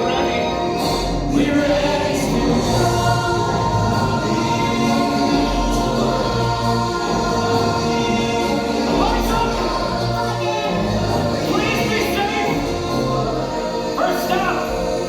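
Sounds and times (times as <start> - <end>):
choir singing held notes: 0.0 - 15.0
steady bass: 0.0 - 15.0.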